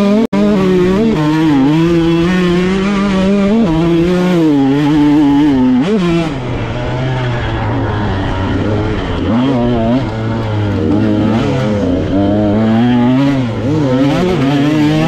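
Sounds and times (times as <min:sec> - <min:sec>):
dirt bike engine racing: 0:00.0 - 0:15.0
dirt bike throttle blips: 0:00.0 - 0:15.0.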